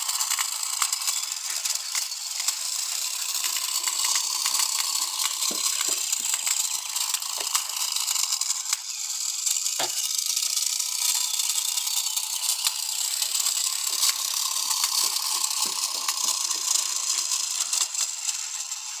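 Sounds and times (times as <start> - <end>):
small electric motor buzzing: 0.0 - 19.0.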